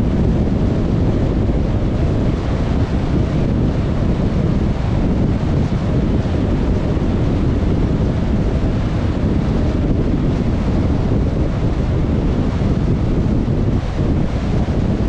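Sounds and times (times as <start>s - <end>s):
car wind and road noise: 0.0s - 15.0s.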